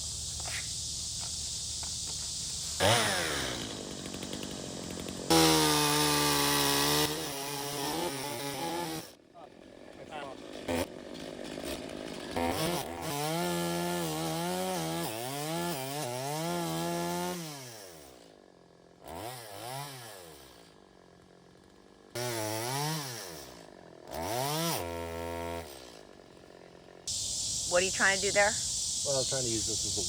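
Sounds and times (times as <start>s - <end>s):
chainsaw engine revving and idling: 2.1s - 27.1s.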